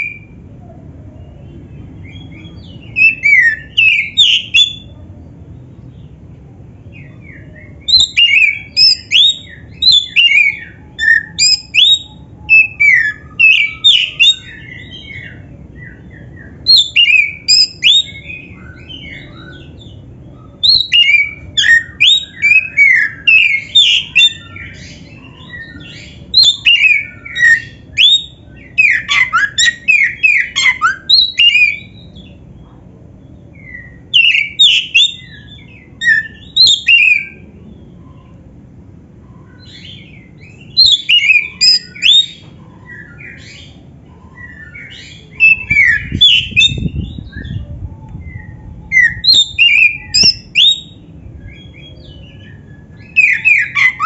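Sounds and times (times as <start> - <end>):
bird singing whistled trills: 1.2 - 5.0, 7.0 - 32.4, 33.5 - 38.3, 39.3 - 54.0.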